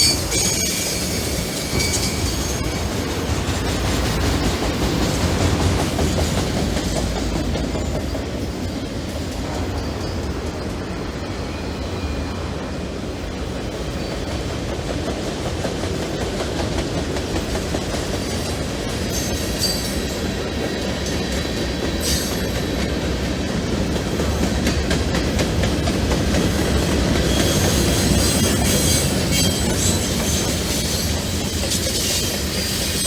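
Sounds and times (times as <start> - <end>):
wheel flanges squealing on rail: 0.0 - 12.6, 17.9 - 33.0
train cars rumbling past: 0.0 - 33.0.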